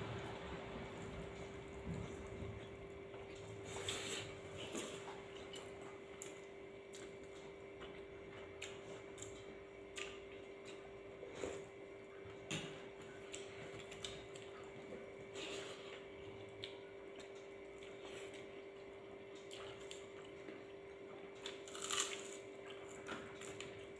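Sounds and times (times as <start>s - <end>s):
steady hum: 0.0s - 23.2s
people chewing and lip smacking: 1.4s - 23.9s.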